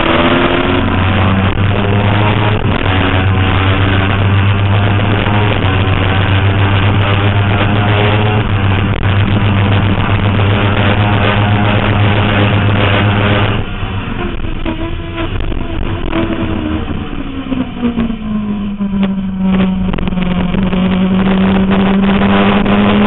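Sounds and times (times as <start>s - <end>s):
motorcycle engine running hard: 0.0s - 23.0s.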